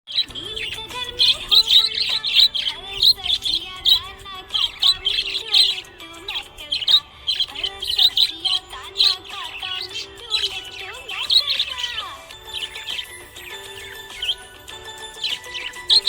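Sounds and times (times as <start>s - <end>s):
budgerigar chirping and warbling: 0.1s - 16.0s.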